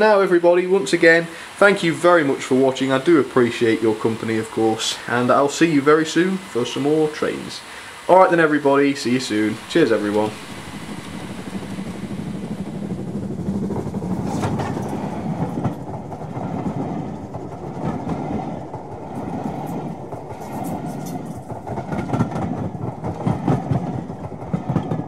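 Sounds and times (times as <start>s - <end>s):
train rumbling on rails: 0.0s - 25.0s
wheels clacking over rail joints: 2.0s - 25.0s.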